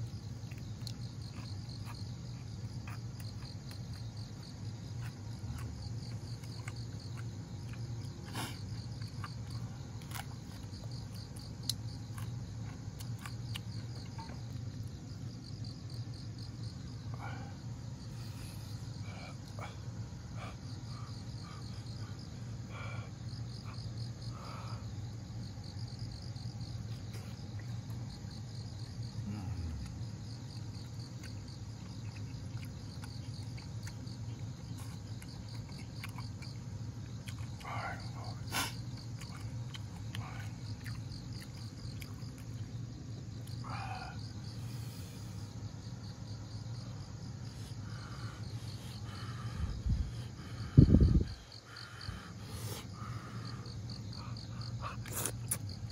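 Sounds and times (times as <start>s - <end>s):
insects chirping in pulses: 0.0s - 55.9s
steady low hum: 0.0s - 55.9s.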